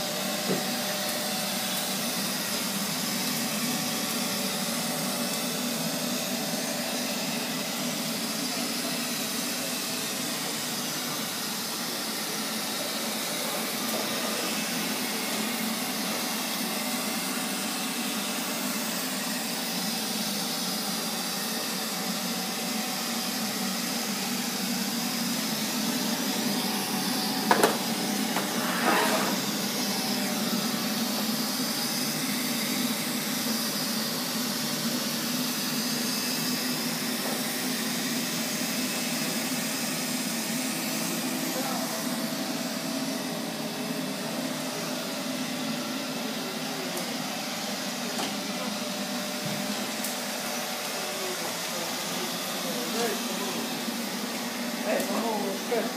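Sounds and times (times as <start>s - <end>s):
robot vacuum running: 0.0s - 55.9s.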